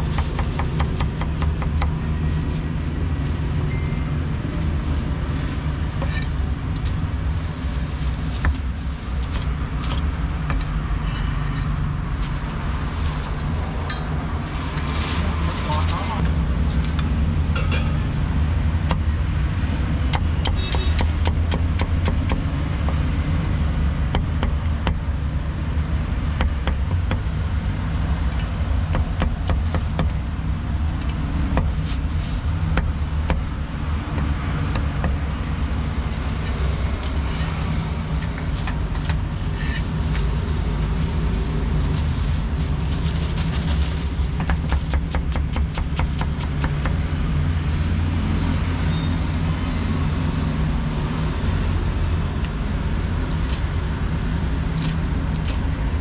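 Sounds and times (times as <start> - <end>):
street traffic rumble: 0.0 - 56.0.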